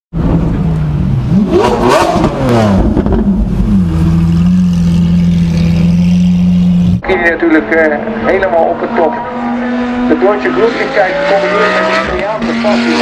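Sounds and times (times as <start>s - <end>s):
sports car engine revving: 0.2s - 13.0s.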